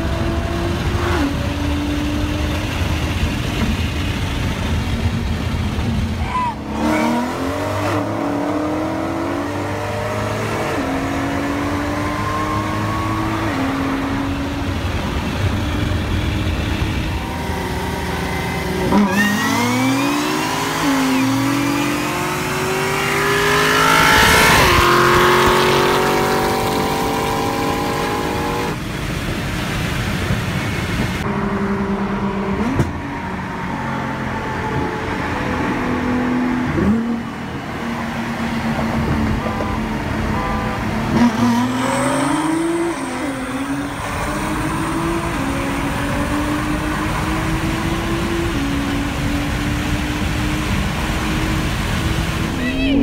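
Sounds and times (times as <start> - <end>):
racing car engines at full throttle: 0.0 - 53.0.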